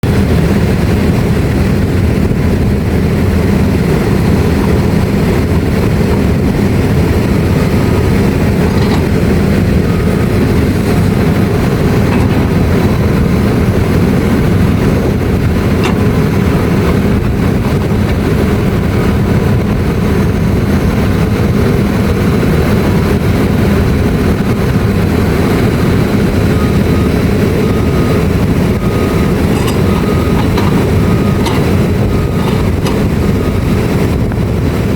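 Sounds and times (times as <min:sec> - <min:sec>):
heavy machine rumbling: 0:00.0 - 0:34.9.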